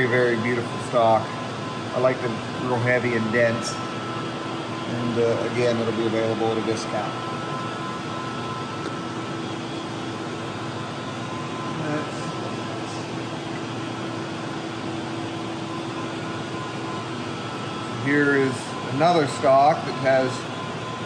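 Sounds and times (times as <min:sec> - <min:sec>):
ventilation hum: 0:00.0 - 0:21.0.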